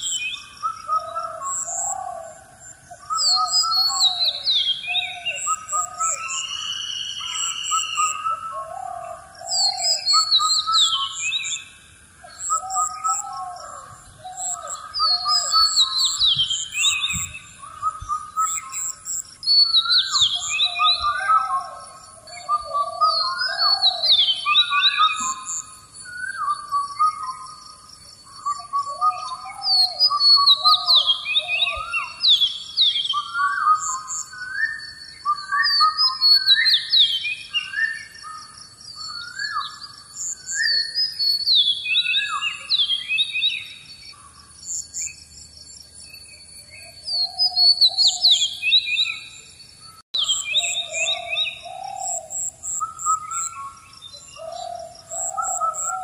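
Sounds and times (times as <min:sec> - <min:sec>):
bird whistling chirps: 0:03.0 - 0:08.8, 0:09.4 - 0:11.7, 0:12.3 - 0:27.8, 0:28.4 - 0:43.9, 0:46.1 - 0:49.5, 0:50.2 - 0:56.0.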